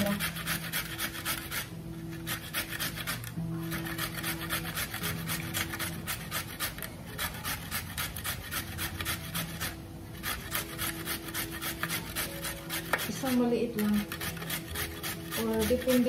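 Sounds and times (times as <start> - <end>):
carrot grating on metal grater: 0.0 - 16.0.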